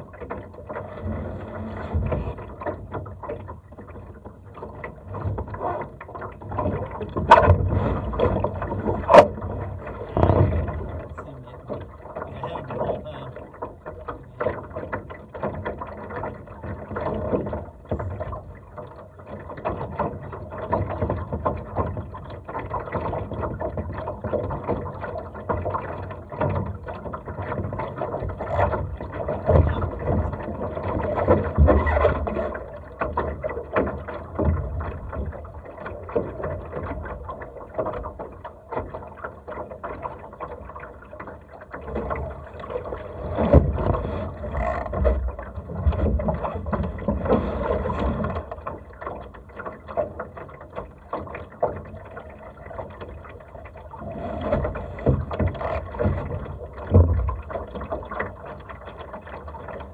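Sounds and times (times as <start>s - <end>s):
boat fittings knocking and rattling: 0.0s - 59.9s
water sloshing against hull: 0.0s - 59.9s.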